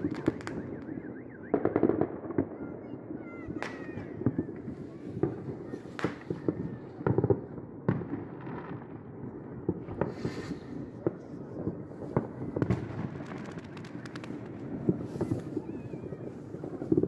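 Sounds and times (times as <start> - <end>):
fireworks bangs and pops: 0.0 - 2.6, 3.2 - 17.0
distant fireworks rumble: 0.0 - 17.0.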